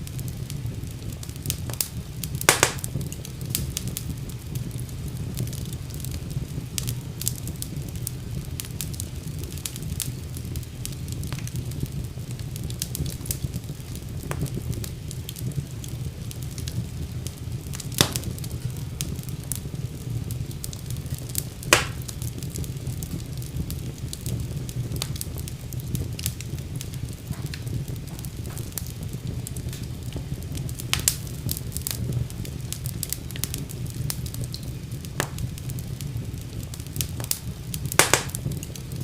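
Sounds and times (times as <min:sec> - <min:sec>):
fire crackling in fireplace: 0:00.0 - 0:39.0
loud fire pops: 0:00.0 - 0:39.0.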